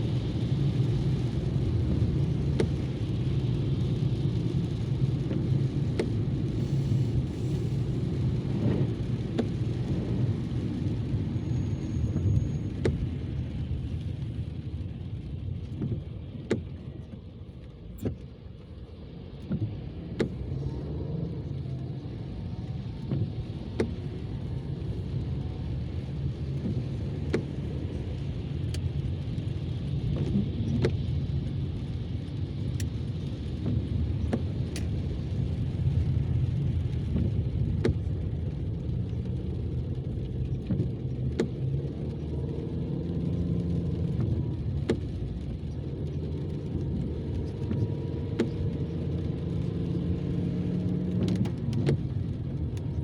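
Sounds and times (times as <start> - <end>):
car engine rumble: 0.0 - 53.0
road noise: 0.0 - 53.0.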